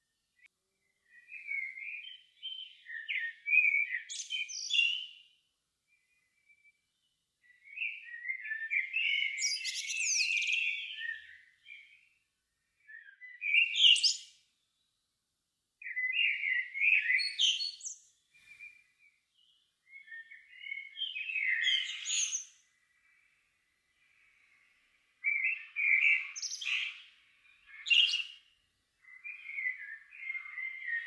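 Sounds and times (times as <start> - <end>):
songbird singing: 0.0 - 15.1, 15.8 - 31.0.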